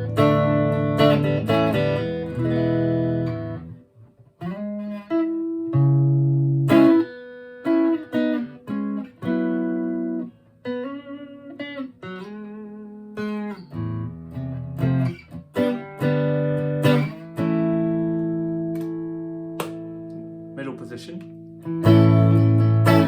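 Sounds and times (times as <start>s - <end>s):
clean electric guitar notes and chords: 0.0s - 23.0s.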